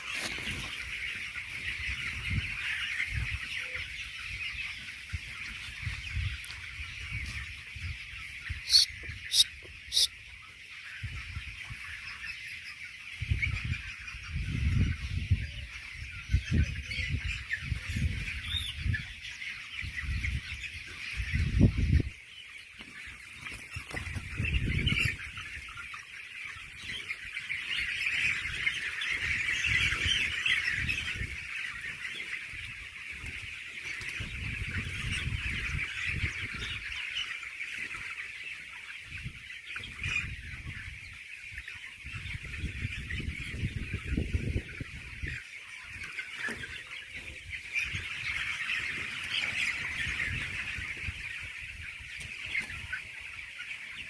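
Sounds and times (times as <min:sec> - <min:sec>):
chickens chattering: 0:00.0 - 0:54.0.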